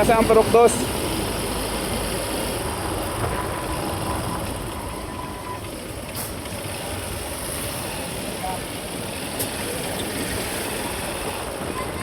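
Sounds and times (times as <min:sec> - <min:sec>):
road noise: 0:00.0 - 0:12.0
vehicle engine: 0:00.0 - 0:12.0
wind: 0:00.0 - 0:12.0.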